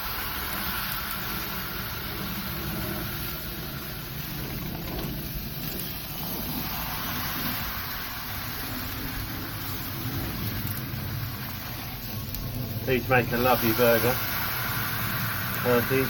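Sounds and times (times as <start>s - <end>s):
burger patties sizzling on griddle: 0.0s - 16.0s.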